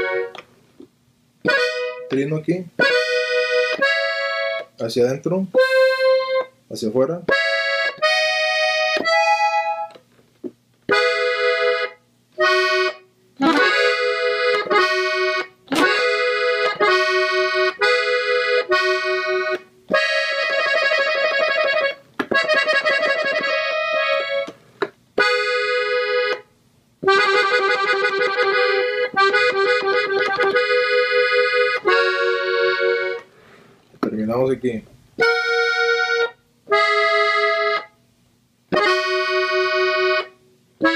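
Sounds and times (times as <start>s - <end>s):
button accordion melody: 0.0s - 0.4s, 1.4s - 6.6s, 7.3s - 10.0s, 10.9s - 24.6s, 25.2s - 33.3s, 35.2s - 38.0s, 38.7s - 40.9s.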